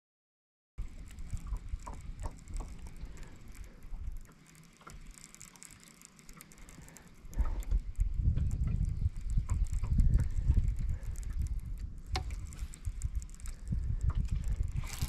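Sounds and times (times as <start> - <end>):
fishing reel clicking: 0.8 - 15.0.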